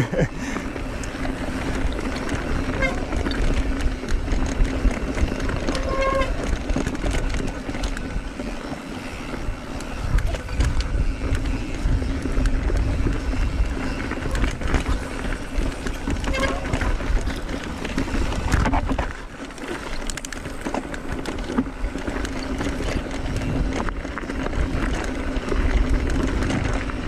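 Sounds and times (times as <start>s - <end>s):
bike tyres clicking and rattling: 0.0s - 27.0s
wind rumble on microphone: 0.0s - 27.0s.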